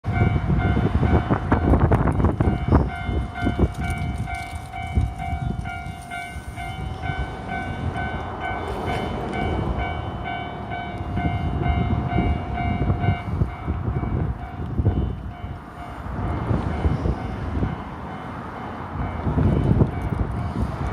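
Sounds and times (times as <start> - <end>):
train rumbling past: 0.0 - 20.9.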